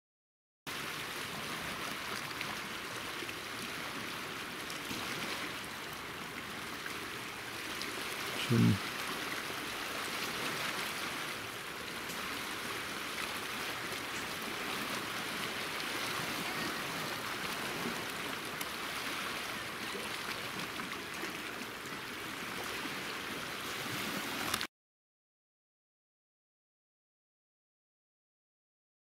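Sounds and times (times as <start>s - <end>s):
sea waves lapping over rocks: 0.7s - 24.7s.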